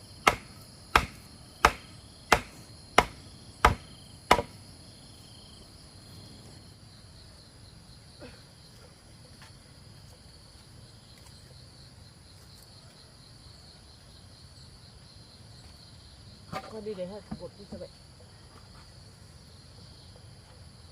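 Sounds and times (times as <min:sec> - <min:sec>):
insects chirring: 0:00.0 - 0:20.9.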